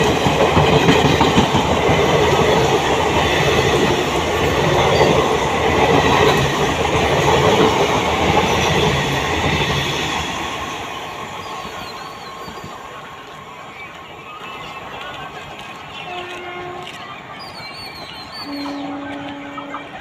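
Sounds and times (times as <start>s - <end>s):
train wheels rattling over track: 0.0s - 20.0s.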